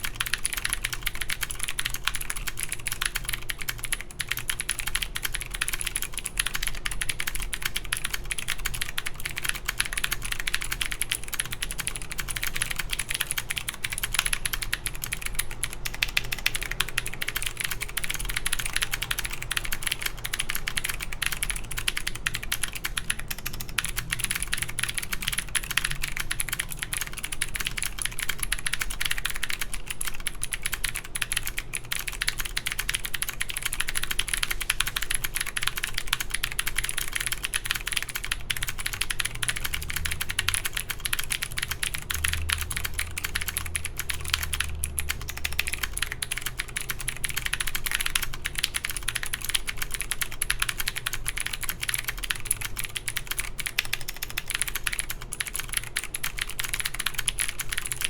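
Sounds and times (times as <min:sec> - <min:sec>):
fast typing on mechanical keyboard: 0:00.0 - 0:58.0.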